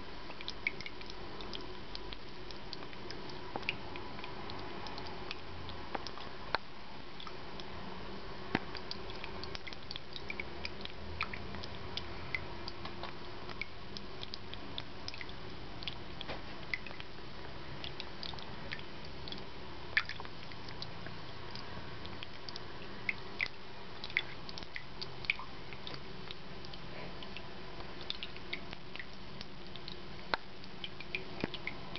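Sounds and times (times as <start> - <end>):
fountain water trickling: 0.0 - 31.9
water drips: 0.0 - 31.9.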